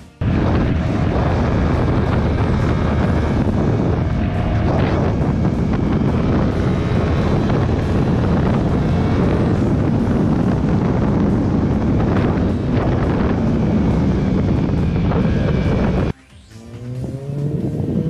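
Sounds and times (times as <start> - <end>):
wind noise on microphone: 0.0 - 16.2, 16.9 - 18.0
motorcycle engine running: 0.0 - 18.0.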